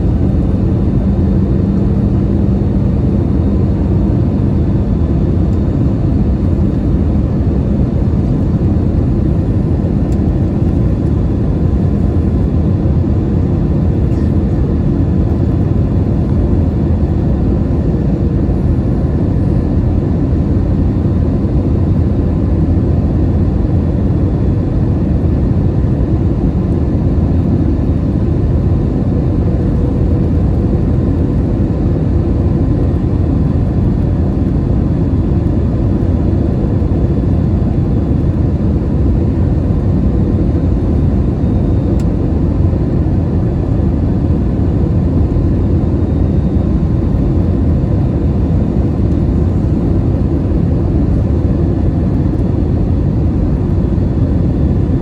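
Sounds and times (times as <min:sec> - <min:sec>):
airliner cabin roar: 0:00.0 - 0:55.0.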